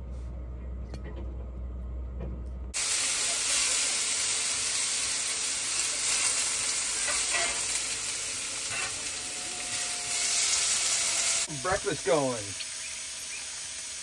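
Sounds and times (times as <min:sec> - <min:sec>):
food sizzling in a pan: 0:02.8 - 0:14.0.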